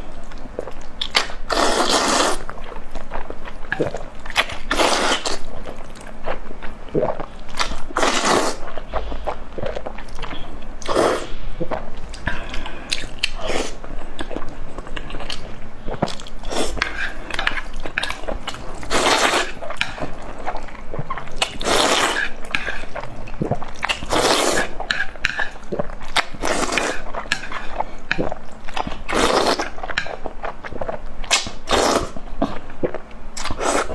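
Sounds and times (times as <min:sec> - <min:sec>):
crunchy eating and chewing: 0:00.0 - 0:33.9.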